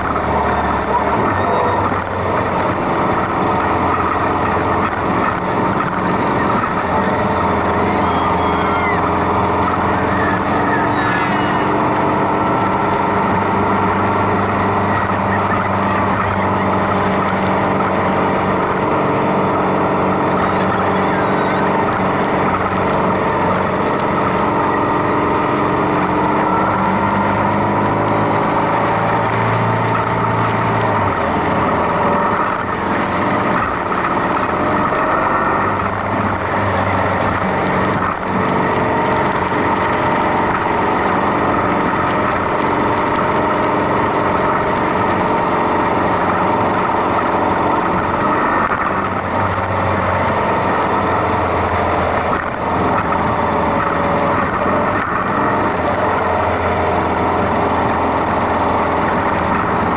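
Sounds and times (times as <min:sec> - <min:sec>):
motorcycle engines running: 0:00.0 - 0:59.9.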